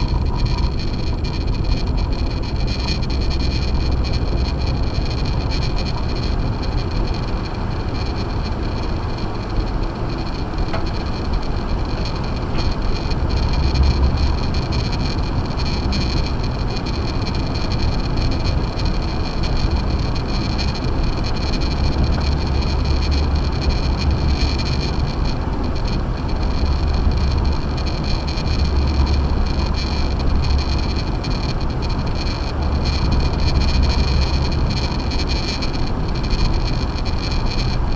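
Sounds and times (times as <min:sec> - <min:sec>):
car tyres rumbling on snow: 0:00.0 - 0:37.9.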